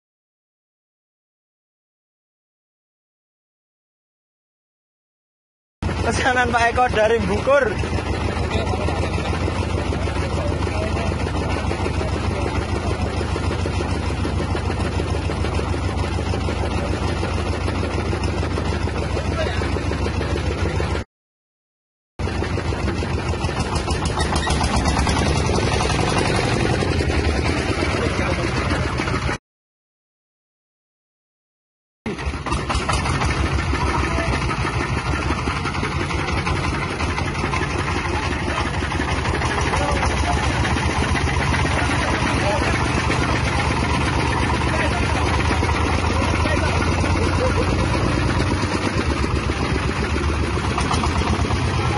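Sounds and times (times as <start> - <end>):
engine idling with regular pulse: 5.8 - 21.0, 22.2 - 29.4, 32.1 - 51.9.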